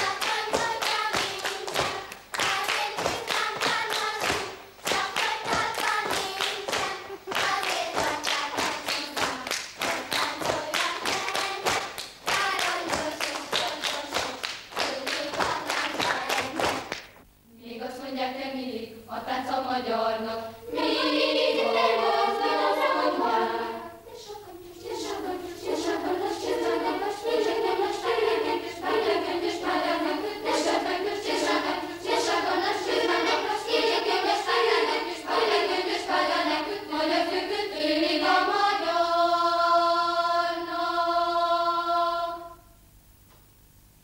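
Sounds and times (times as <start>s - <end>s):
children's choir singing: 0.0s - 42.8s.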